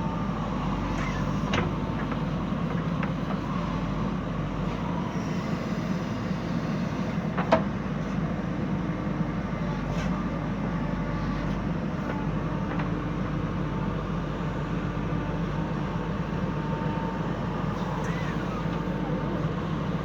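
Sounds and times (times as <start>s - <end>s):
diesel engine running: 0.0s - 9.8s, 10.5s - 20.0s.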